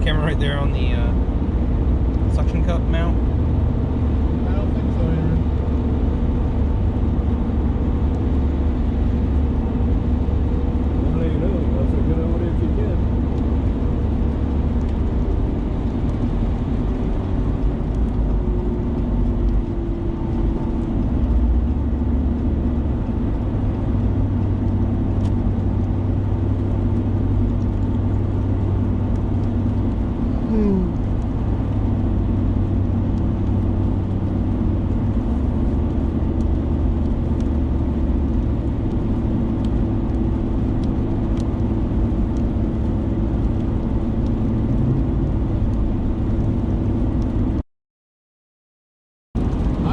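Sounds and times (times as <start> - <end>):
vehicle engine and road noise: 0.0 - 47.6, 49.4 - 49.9.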